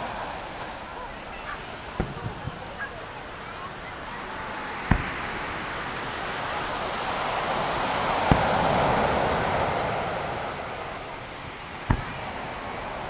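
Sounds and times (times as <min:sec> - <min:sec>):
surf breaking on beach: 0:00.0 - 0:13.0
firework booms: 0:01.4 - 0:13.0.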